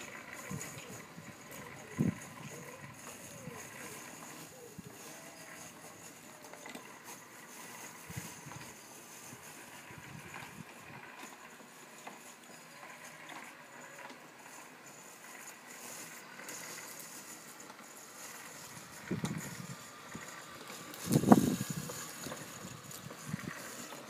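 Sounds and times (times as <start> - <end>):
robot lawn mower running: 0.0 - 24.0.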